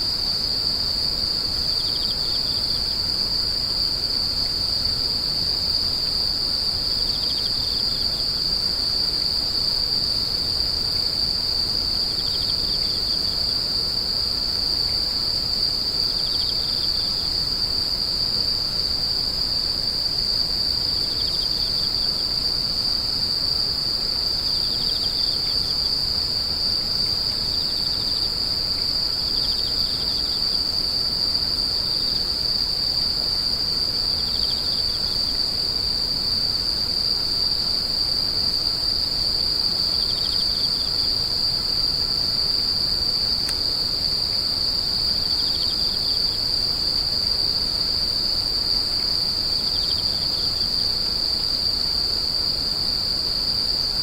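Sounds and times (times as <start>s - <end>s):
insect high-pitched trill: 0.0s - 54.0s
insect lower chirp bursts: 0.0s - 54.0s.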